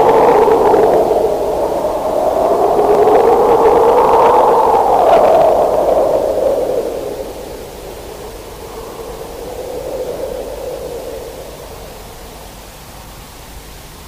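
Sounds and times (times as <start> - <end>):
tape hiss: 0.0 - 14.0.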